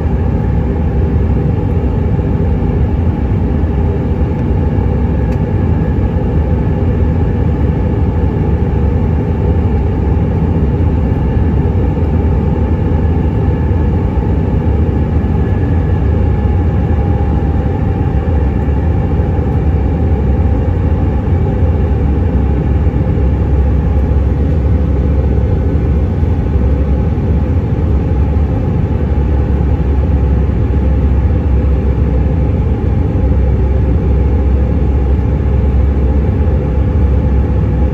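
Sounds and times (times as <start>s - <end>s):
airplane cabin engine roar: 0.0s - 37.9s
faint engine whine: 0.0s - 37.9s.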